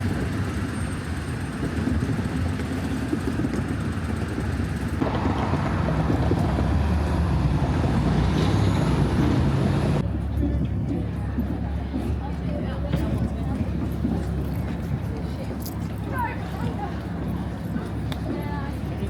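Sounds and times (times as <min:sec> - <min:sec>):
urban outdoor noise: 0:00.0 - 0:19.0
vehicle low rumble: 0:00.0 - 0:19.0.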